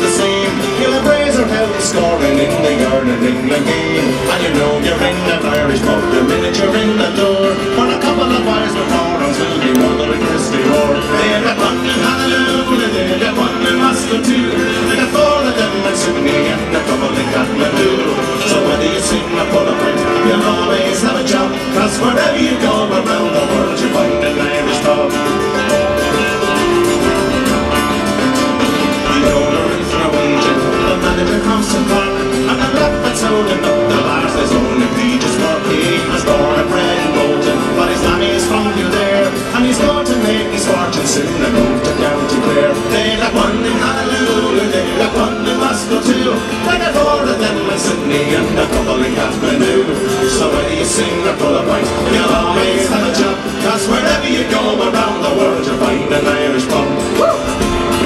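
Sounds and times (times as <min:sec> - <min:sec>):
folk band playing: 0:00.0 - 0:58.0
strummed acoustic guitars: 0:00.0 - 0:58.0.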